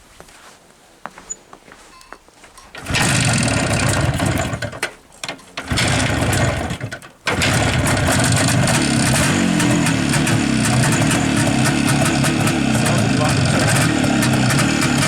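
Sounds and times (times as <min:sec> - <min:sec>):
two-stroke motorcycle engine starting: 0:02.7 - 0:15.0.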